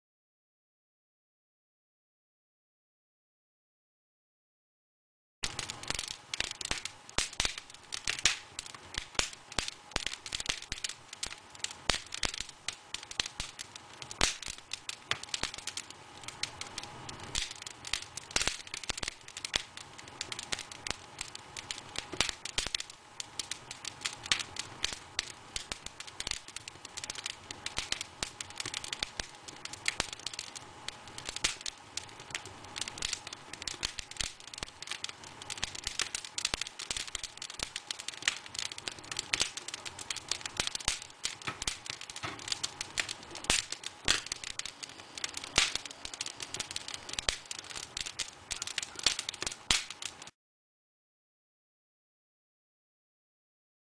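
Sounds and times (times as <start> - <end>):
wood fire crackling and popping: 5.4 - 50.4.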